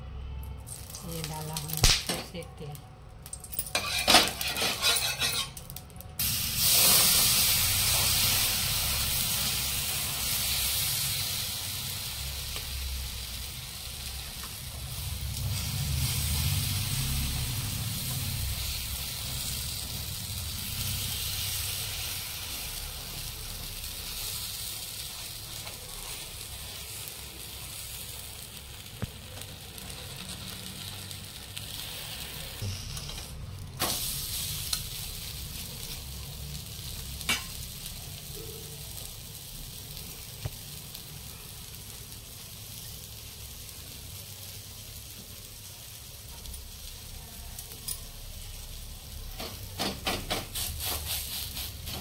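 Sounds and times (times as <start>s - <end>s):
batter sizzling on hot pan: 0.5s - 52.0s.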